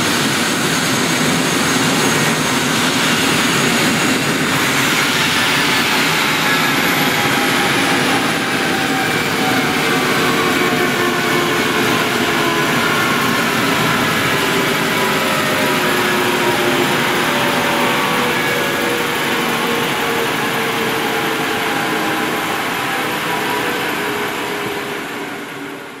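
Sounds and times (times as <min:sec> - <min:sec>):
helicopter rotor winding down: 0:00.0 - 0:26.0
helicopter turbine whine: 0:00.0 - 0:26.0.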